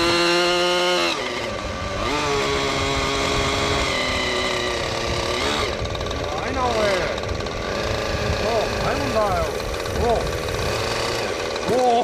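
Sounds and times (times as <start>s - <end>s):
rc helicopter engine and rotor whine: 0.0s - 12.0s.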